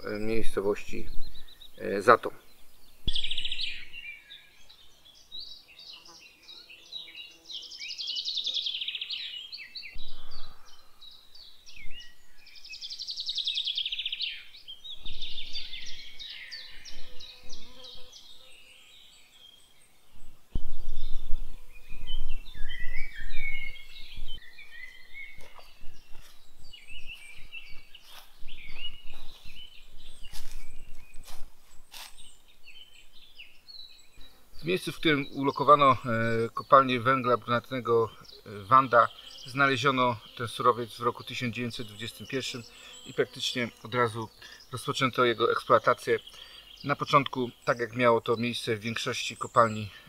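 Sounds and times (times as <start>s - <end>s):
songbirds singing: 0.0s - 50.0s.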